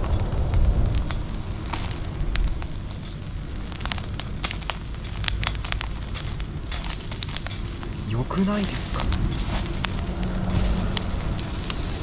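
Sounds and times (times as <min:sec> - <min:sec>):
charcoal fire crackling: 0:00.0 - 0:12.0
low rumble: 0:00.0 - 0:12.0.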